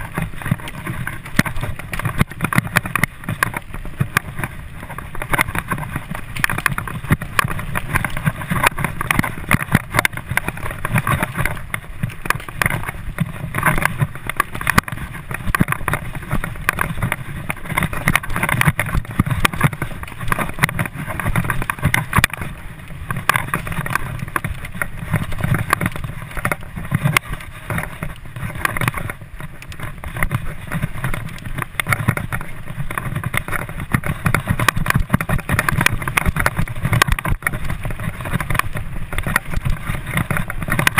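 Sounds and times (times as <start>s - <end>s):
bike rattles and knocks: 0.0s - 40.9s
wind and tyre noise: 0.0s - 40.9s.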